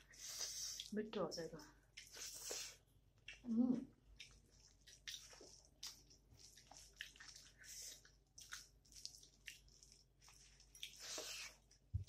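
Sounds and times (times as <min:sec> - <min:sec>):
wet chewing: 0:01.7 - 0:12.0
fingers squishing food: 0:01.8 - 0:12.0.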